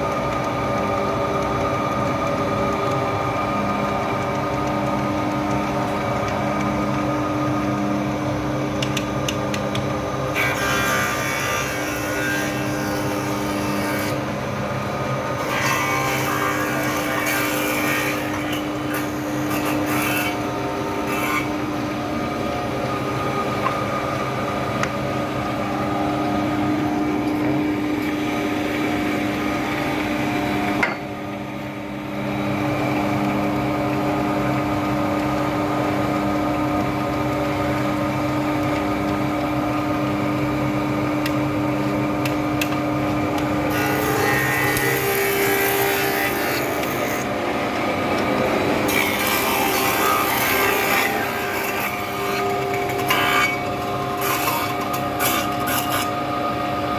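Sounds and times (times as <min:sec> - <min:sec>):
wood planer motor hum: 0:00.0 - 0:56.9.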